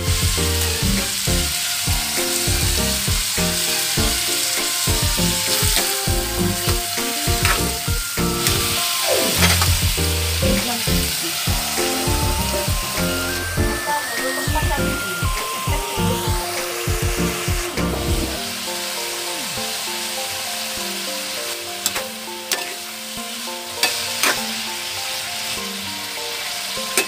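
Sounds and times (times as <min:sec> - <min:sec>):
chicken and onions sizzling in a wok: 0:00.0 - 0:27.0.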